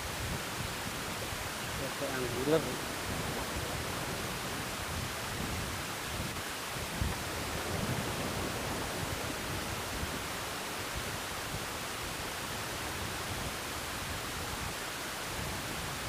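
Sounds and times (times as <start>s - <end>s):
sea surf washing on concrete: 0.0s - 16.0s
wind: 0.0s - 16.0s.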